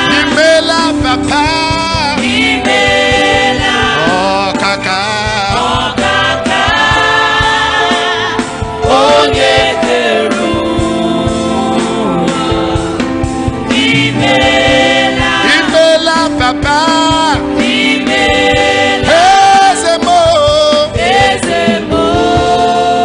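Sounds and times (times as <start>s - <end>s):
choir singing gospel music: 0.0s - 23.0s.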